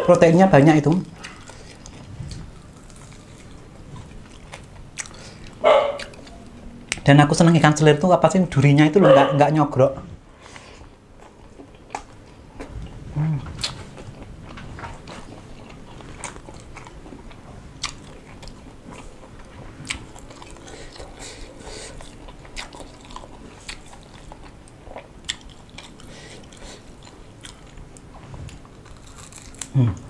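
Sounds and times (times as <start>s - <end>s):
person chewing crunchy fish: 1.1s - 7.0s, 10.5s - 29.8s.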